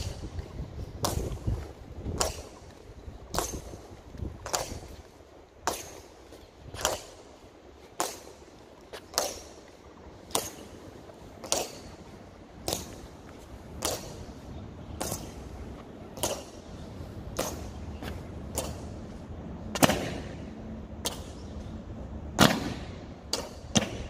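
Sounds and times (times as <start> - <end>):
boots marching on pavement: 0.0 - 20.0.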